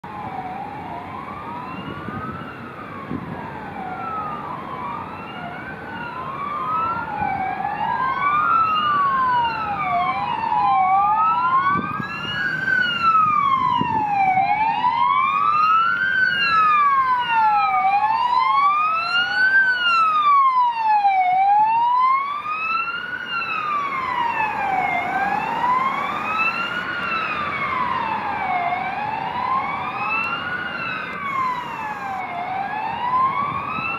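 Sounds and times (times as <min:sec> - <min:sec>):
police sirens wailing: 0:00.0 - 0:33.9
road traffic: 0:00.0 - 0:33.9.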